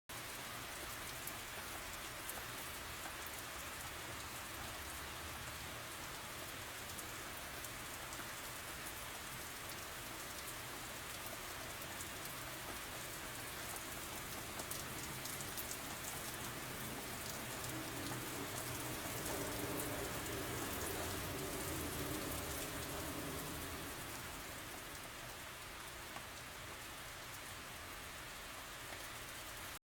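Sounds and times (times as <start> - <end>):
steady rain falling: 0.1 - 29.8.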